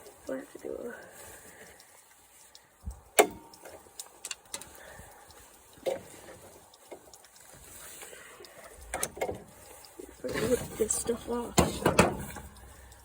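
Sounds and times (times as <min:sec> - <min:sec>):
lawn mower parts clicking and knocking: 0:01.2 - 0:13.0.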